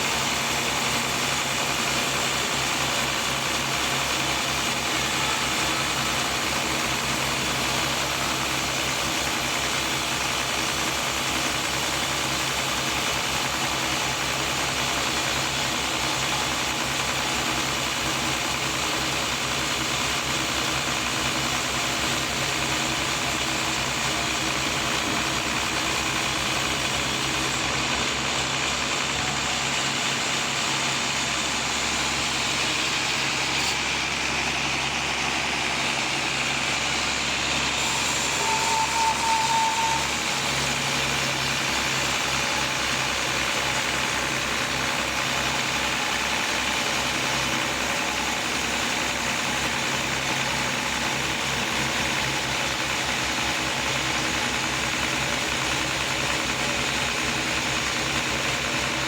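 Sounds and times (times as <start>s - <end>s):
sawmill machinery drone and hiss: 0.0s - 59.0s.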